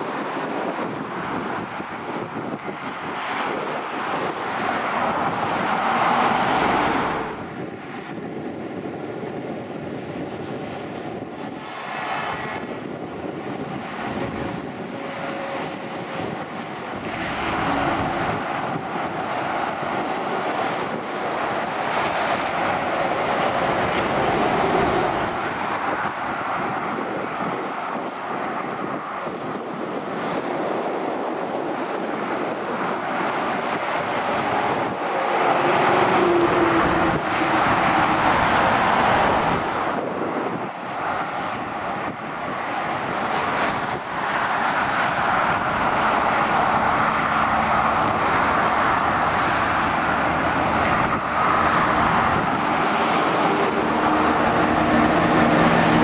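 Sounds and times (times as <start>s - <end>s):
heavy trucks passing: 0.0s - 56.0s
road traffic rushing: 0.0s - 56.0s.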